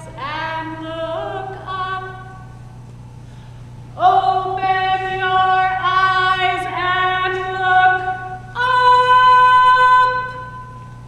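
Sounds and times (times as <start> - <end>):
woman singing unaccompanied: 0.0 - 2.5, 4.0 - 10.8.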